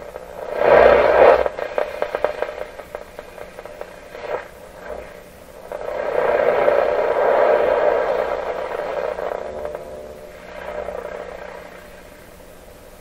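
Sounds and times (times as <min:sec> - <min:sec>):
radio crackles: 0:00.0 - 0:13.0
radio static hiss: 0:00.0 - 0:13.0.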